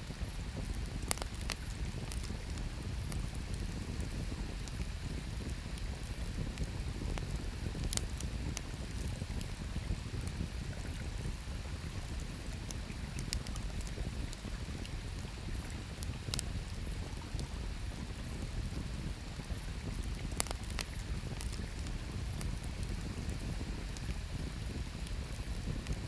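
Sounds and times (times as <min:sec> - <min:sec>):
campfire crackling and popping: 0:00.1 - 0:26.0.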